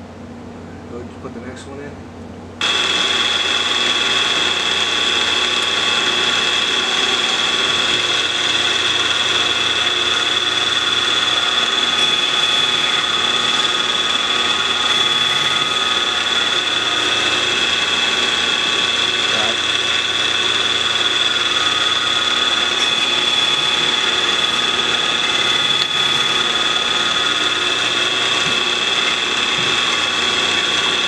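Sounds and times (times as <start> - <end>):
end mill cutting plastic: 2.6 - 31.0
milling machine spindle whine: 2.6 - 31.0.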